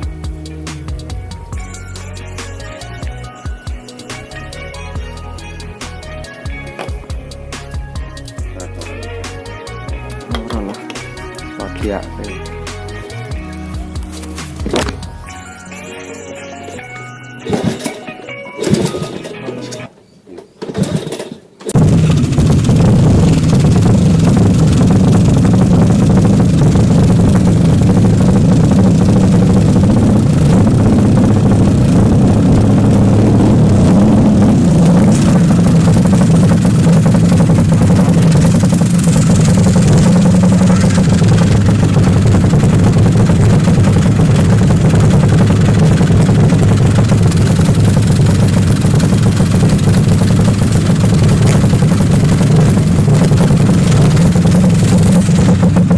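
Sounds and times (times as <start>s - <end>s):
motorcycle engine idling: 0.0s - 15.7s, 21.8s - 55.9s.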